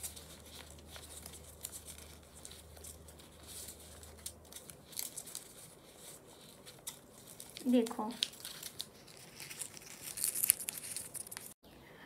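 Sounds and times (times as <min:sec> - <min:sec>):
paper rustling and crinkling: 0:00.0 - 0:11.6.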